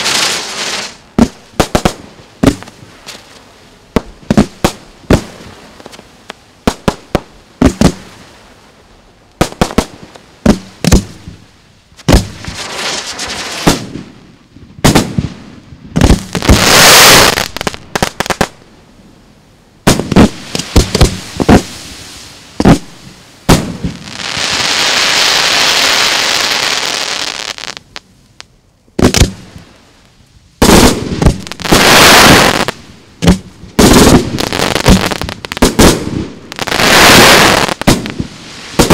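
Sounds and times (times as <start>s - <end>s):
fireworks bangs: 0.0s - 6.0s, 6.6s - 8.2s, 9.4s - 11.4s, 12.0s - 18.6s, 19.8s - 27.9s, 29.0s - 29.8s, 30.6s - 38.9s
rushing fireworks bursts: 0.0s - 8.8s, 9.4s - 18.7s, 19.8s - 28.2s, 29.0s - 38.9s.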